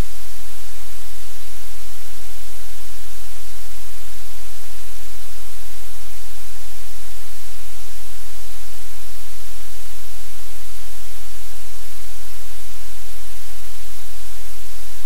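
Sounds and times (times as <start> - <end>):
low electrical hum: 0.0 - 15.0
static hiss: 0.0 - 15.0.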